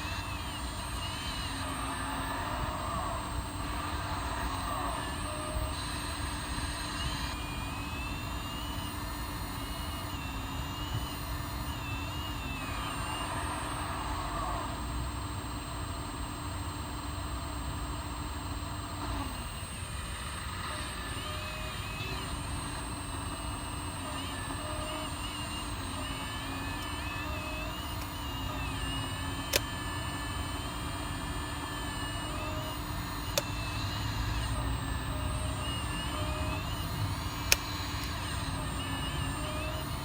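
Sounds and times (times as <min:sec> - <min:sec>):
hydraulic pump humming: 0:00.0 - 0:40.0
hydraulic whining: 0:00.0 - 0:40.0.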